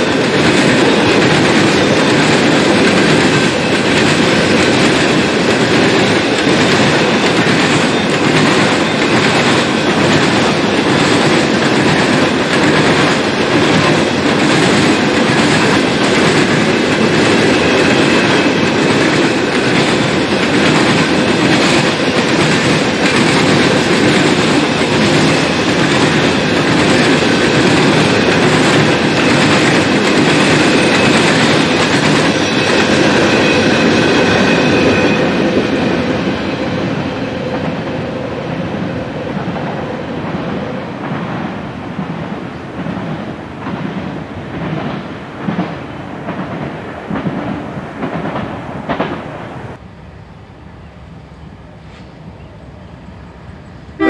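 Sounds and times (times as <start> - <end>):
freight train wheels on rails: 0.0 - 54.0.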